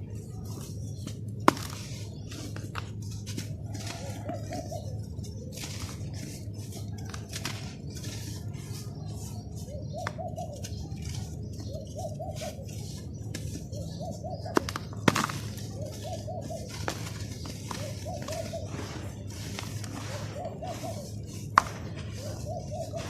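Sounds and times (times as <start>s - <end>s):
bird calling: 0.0s - 23.0s
sand being crushed: 0.1s - 23.0s.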